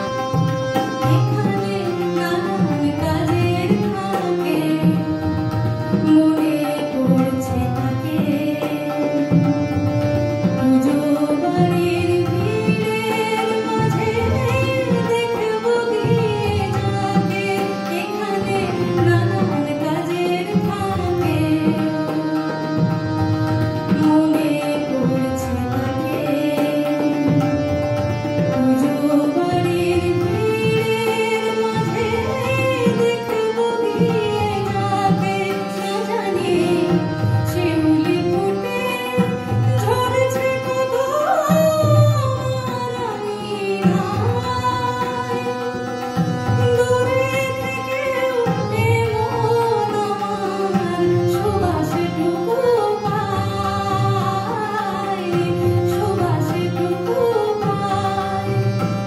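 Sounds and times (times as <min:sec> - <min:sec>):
harmonium: 0:00.0 - 0:59.0
tabla drumming: 0:00.0 - 0:59.0
woman singing: 0:00.0 - 0:59.0.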